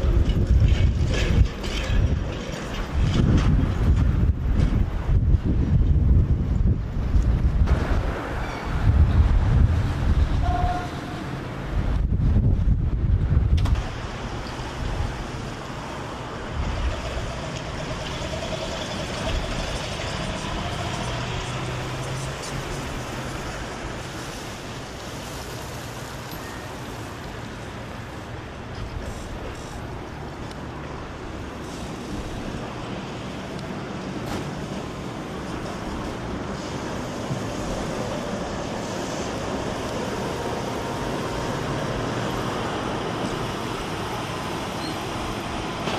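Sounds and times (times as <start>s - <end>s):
cars and lorry driving past: 0.0s - 45.9s
road noise rush: 0.0s - 45.9s
tram wheels rumbling on rails: 0.0s - 45.9s.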